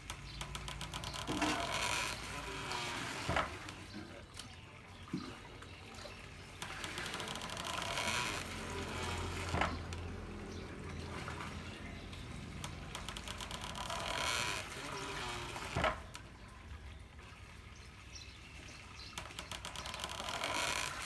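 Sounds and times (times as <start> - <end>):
water pouring and trickling: 0.0 - 21.0.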